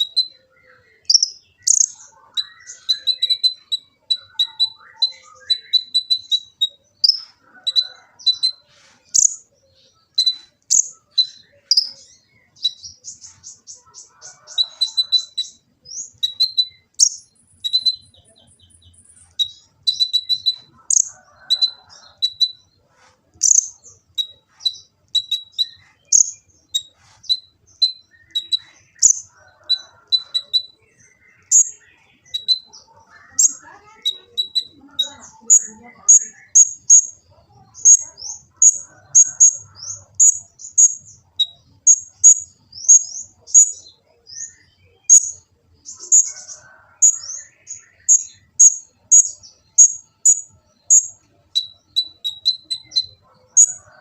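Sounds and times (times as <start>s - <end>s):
very high bird trill: 0.0s - 22.7s, 23.4s - 54.0s
sunbird singing: 0.0s - 54.0s.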